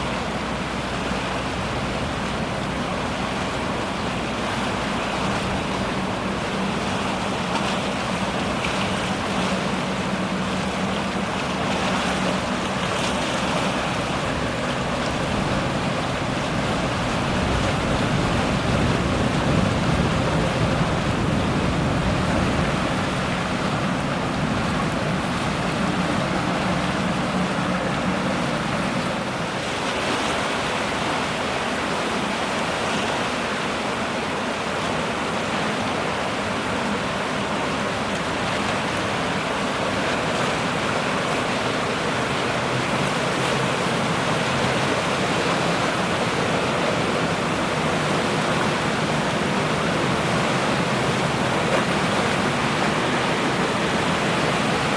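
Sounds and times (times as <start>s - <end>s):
water at a shoreline: 0.0s - 54.9s
wind: 0.0s - 54.9s.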